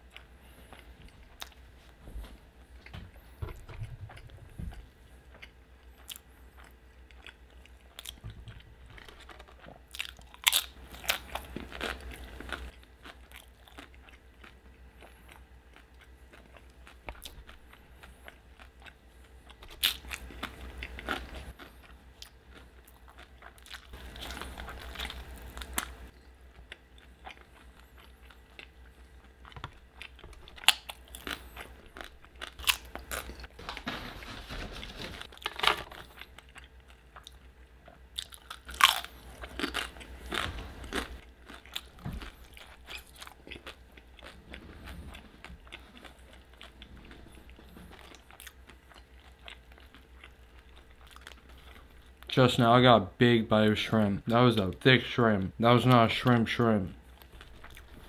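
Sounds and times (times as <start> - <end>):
biting and chewing food: 2.2 - 52.4, 57.0 - 58.0.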